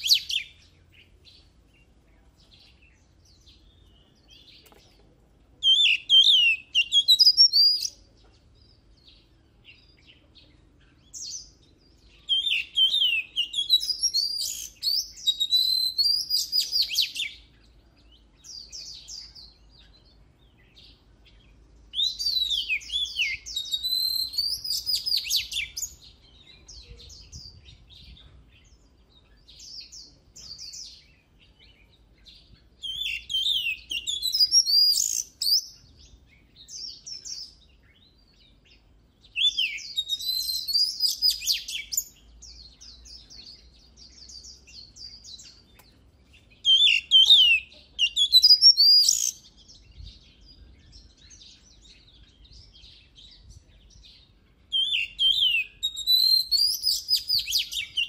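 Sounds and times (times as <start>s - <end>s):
bird singing whistles and trills: 0.0s - 4.8s, 5.6s - 58.0s.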